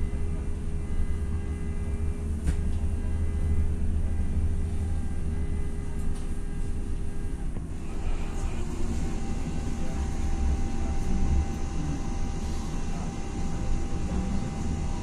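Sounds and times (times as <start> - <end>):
faint electric hum of tones: 0.0 - 15.0.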